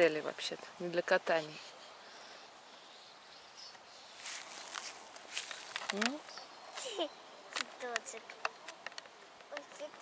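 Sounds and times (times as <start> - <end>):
garden ambience: 0.0 - 10.0.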